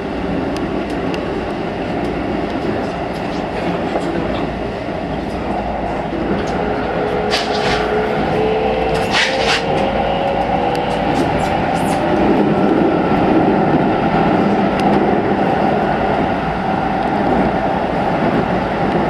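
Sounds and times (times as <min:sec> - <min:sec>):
train wheels and motors rumbling: 0:00.0 - 0:19.0.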